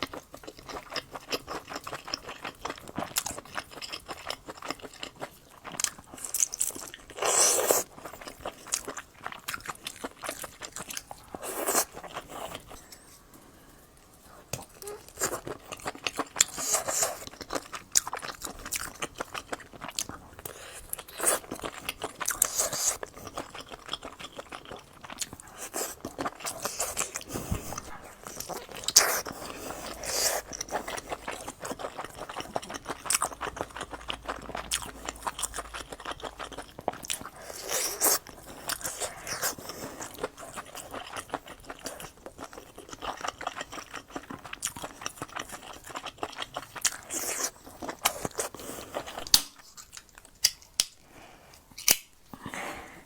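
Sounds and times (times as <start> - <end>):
chewing and biting sausages: 0.0 - 12.8, 14.5 - 52.6.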